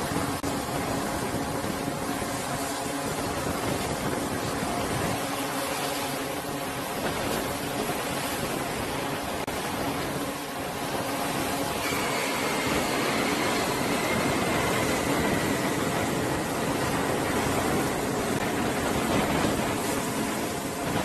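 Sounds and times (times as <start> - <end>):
engine roar: 0.0 - 21.0
faint high whine: 0.0 - 21.0.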